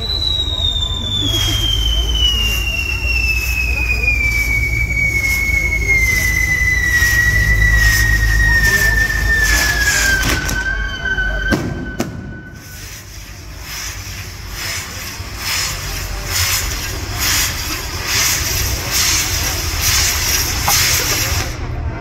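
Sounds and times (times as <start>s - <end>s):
sharp firework cracks: 0.0s - 10.9s, 11.5s - 21.6s
firework whistle falling in pitch: 0.0s - 21.5s
fireworks crackling and hissing: 0.0s - 22.0s.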